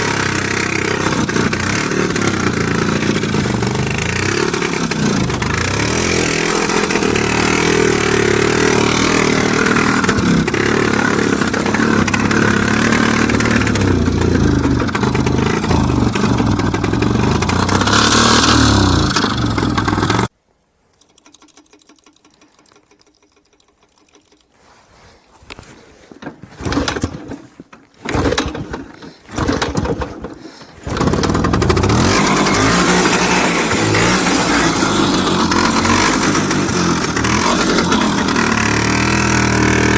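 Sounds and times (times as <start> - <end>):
engine restart bursts: 0.0 - 20.3, 28.0 - 39.9
two-stroke motorcycle engine running: 0.0 - 20.3, 28.0 - 39.9.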